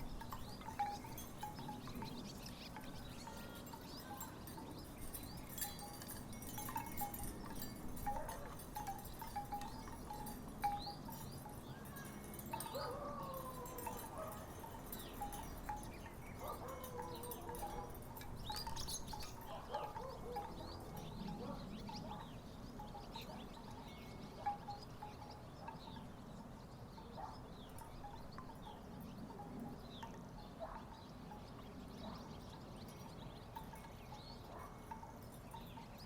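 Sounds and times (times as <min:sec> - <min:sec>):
wooden wind chimes clacking: 0:00.0 - 0:36.0.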